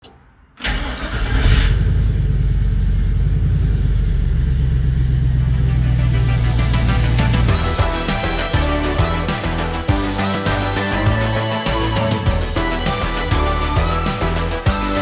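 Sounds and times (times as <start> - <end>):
truck engine starting and rumbling: 0.6 - 14.7.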